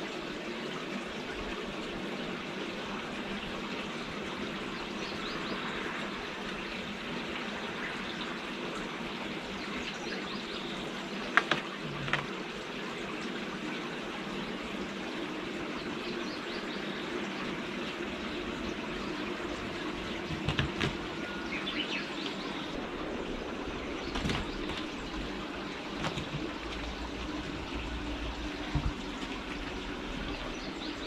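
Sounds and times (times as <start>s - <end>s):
outdoor background hiss: 0.0s - 31.0s.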